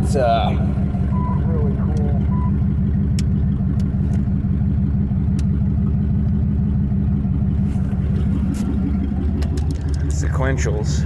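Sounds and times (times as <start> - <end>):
car engine running rough: 0.0 - 11.0.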